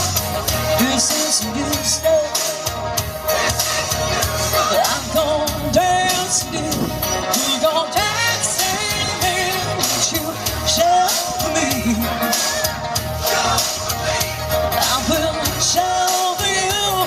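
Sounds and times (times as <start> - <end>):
bass: 0.0 - 17.0
person singing: 0.0 - 17.0
pop-rock band: 0.0 - 17.0
steady drum beat: 0.0 - 17.0.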